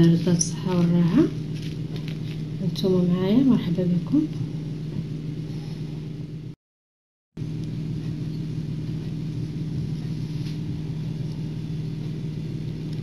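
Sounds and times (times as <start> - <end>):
low hum: 0.0 - 6.6, 7.4 - 13.0.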